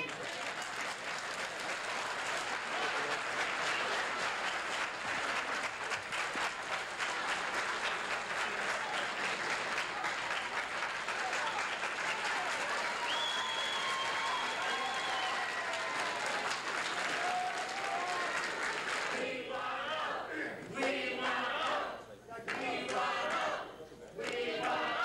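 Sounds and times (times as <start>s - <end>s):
crowd applauding: 0.0s - 19.8s, 24.2s - 25.0s.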